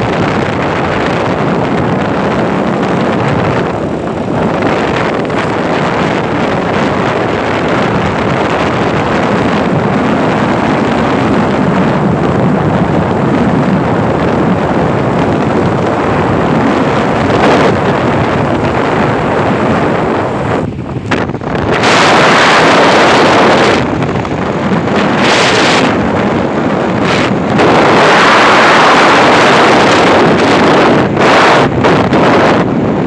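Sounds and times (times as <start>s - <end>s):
vehicle road noise: 0.0s - 33.0s
wind rushing on microphone: 0.0s - 33.0s.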